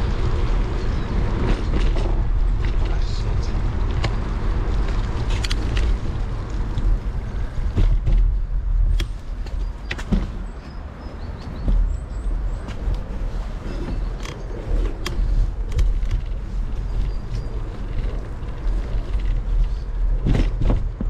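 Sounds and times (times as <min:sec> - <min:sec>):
bicycle riding rumble: 0:00.0 - 0:21.0
bike clicks and rattles: 0:00.0 - 0:21.0.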